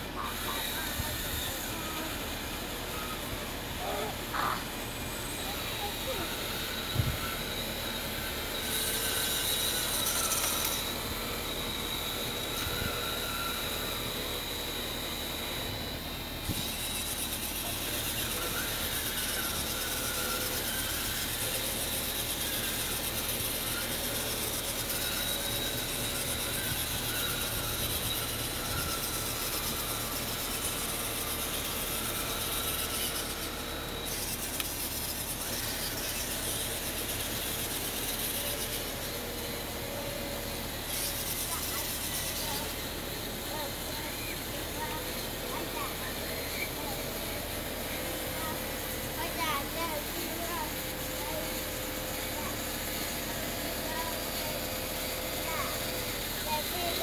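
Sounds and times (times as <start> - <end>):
motor and hydraulic pump whine: 0.0 - 57.0.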